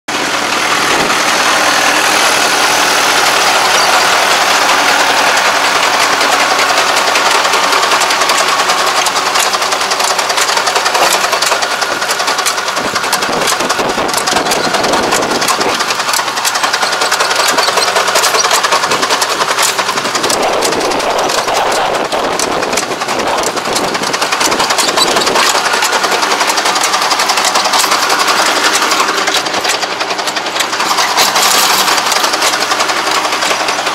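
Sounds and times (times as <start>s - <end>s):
small machine engine running: 0.1s - 33.9s
tractor diesel engine: 0.1s - 33.9s.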